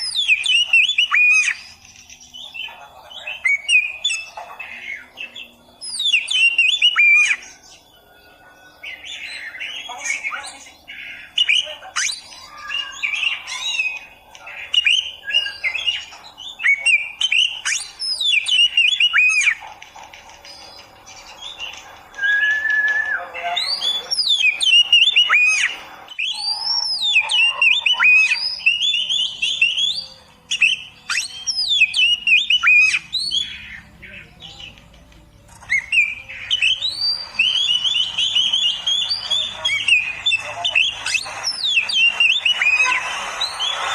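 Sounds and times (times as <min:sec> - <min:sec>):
bird singing whistles and chirps: 0:00.0 - 0:19.6, 0:20.4 - 0:34.8, 0:35.5 - 0:43.9.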